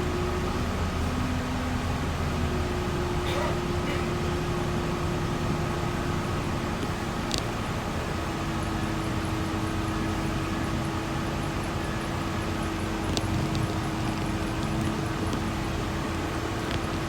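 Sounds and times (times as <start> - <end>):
bus engine and road noise: 0.0 - 17.0
constant hum: 0.0 - 17.0.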